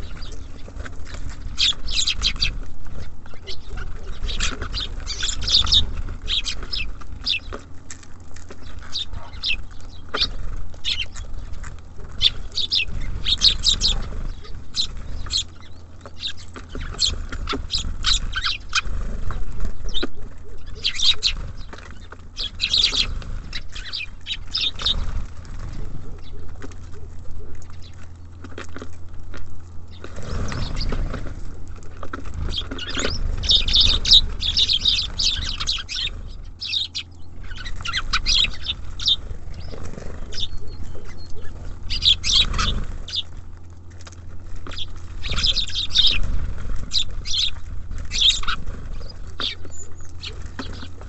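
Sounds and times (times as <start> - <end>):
fluttering wings: 0.0 - 51.0
songbirds chirping: 0.0 - 51.0.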